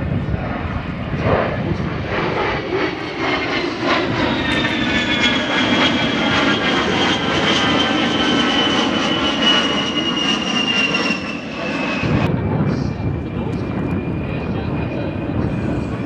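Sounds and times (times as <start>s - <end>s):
jet aircraft flyby: 0.0s - 16.0s.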